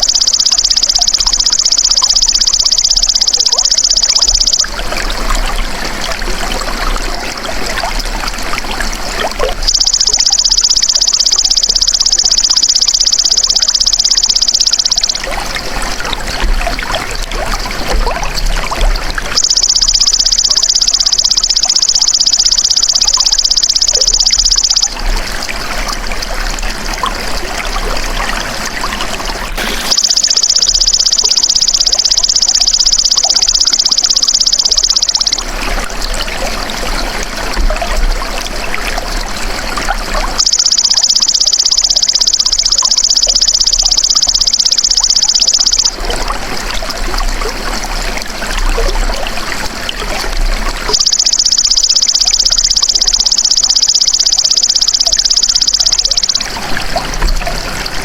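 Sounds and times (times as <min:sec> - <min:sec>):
trickling running water: 0:00.0 - 0:58.0.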